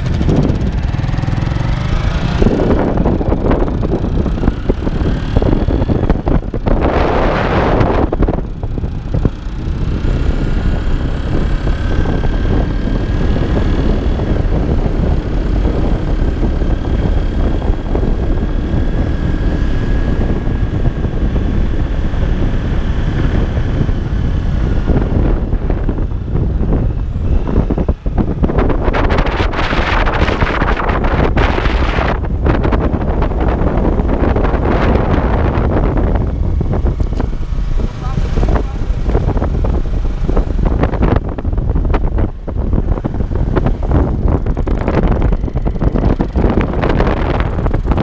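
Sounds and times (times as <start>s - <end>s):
motorcycle engine running: 0.0s - 48.0s
wind buffeting microphone: 0.0s - 48.0s
wind rush: 0.0s - 48.0s.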